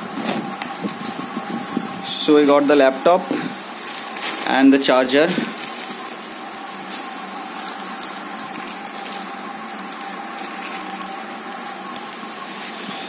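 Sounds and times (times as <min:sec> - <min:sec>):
faint hum: 0:00.0 - 0:13.0
plastic sleeve rustling: 0:00.0 - 0:13.0.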